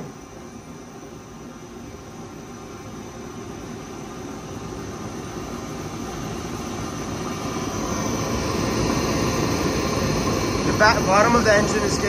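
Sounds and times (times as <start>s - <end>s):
jet engine flame roar: 0.0s - 12.0s.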